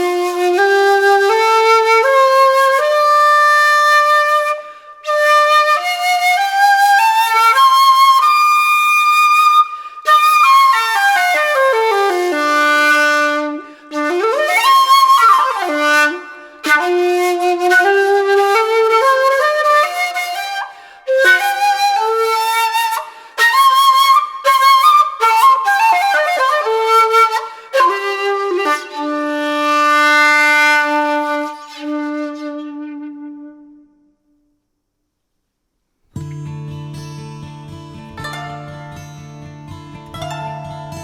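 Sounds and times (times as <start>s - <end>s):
breathy bamboo flute solo: 0.0s - 34.2s.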